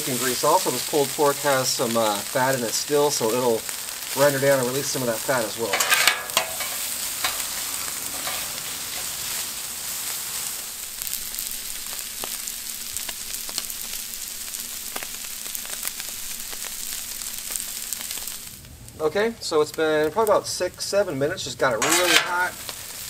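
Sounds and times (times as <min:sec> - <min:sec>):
meat sizzling on griddle: 0:00.0 - 0:23.0.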